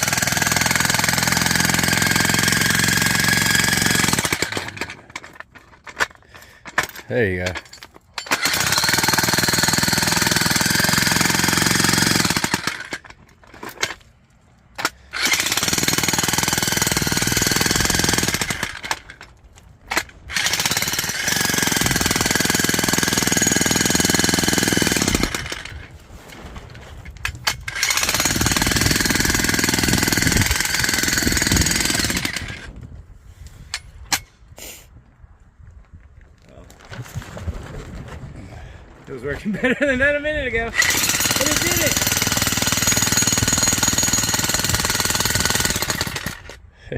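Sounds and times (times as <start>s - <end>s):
demolition hammer chiselling ground: 0.0s - 34.6s, 36.4s - 46.9s.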